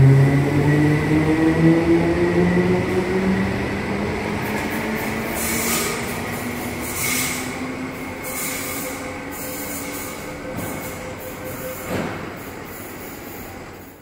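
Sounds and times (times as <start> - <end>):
electric train pulling away: 0.0 - 14.0
train wheel noise: 0.0 - 14.0.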